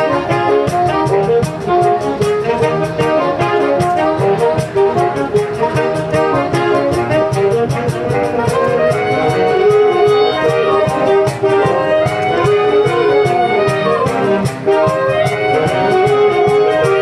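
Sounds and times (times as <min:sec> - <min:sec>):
cajon beat: 0:00.0 - 0:17.0
saxophone ensemble playing: 0:00.0 - 0:17.0.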